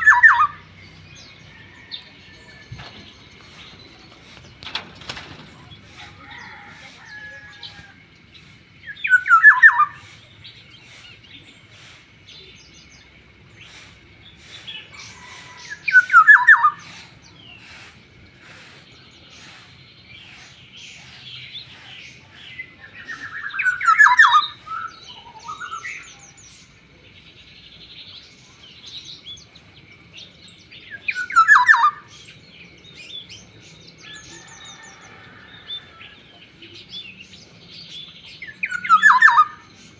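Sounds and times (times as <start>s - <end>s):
soft bird chirps: 0.0s - 39.9s.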